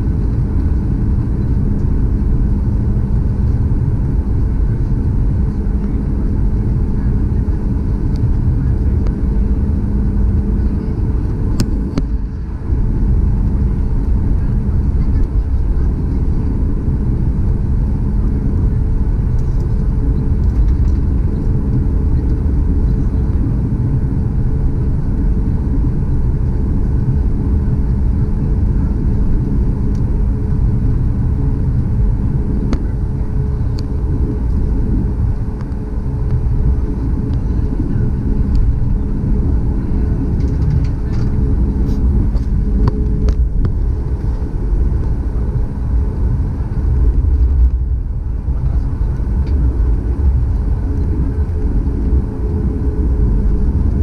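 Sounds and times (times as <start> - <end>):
aircraft cabin low rumble: 0.0 - 54.0
faint steady hum: 0.0 - 54.0.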